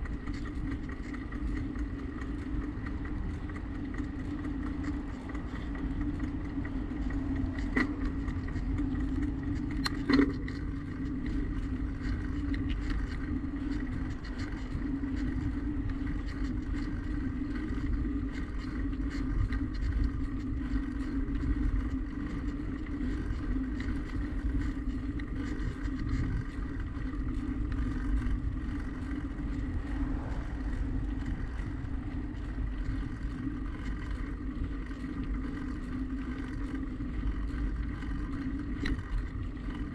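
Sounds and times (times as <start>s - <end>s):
bicycle riding rumble: 0.0s - 39.9s.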